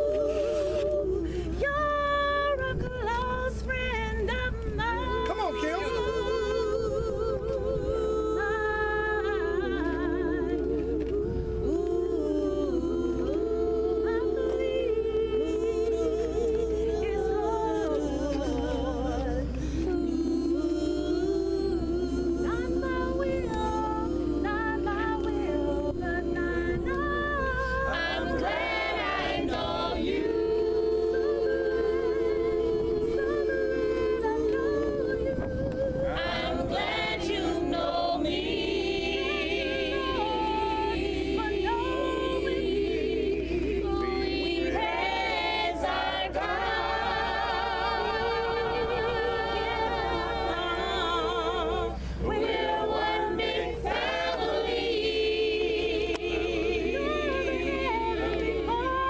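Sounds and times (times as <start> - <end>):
group singing a cappella: 0.0 - 59.0.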